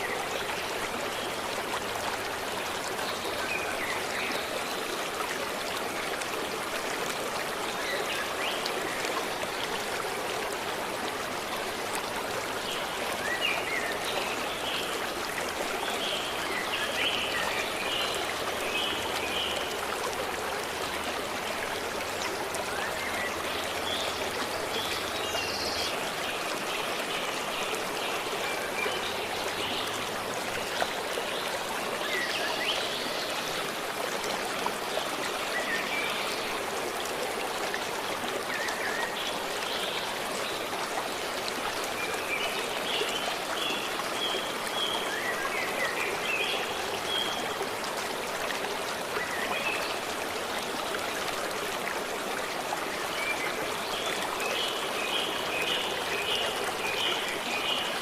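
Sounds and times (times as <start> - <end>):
forest stream running: 0.0 - 58.0.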